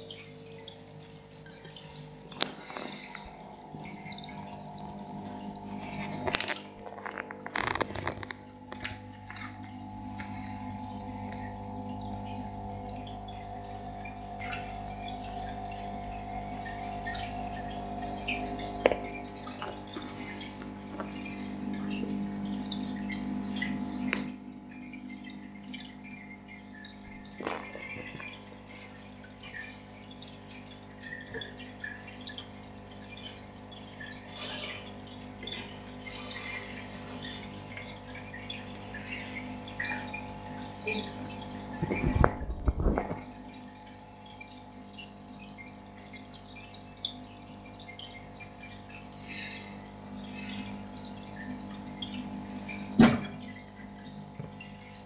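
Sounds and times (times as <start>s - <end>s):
aquarium filter humming: 0.0s - 55.0s
water trickling and dripping: 0.0s - 55.0s.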